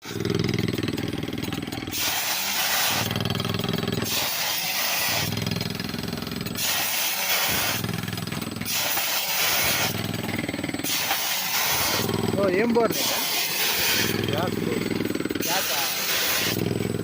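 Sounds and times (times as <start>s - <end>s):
loud hissing rush: 1.9s - 5.8s, 6.5s - 16.8s.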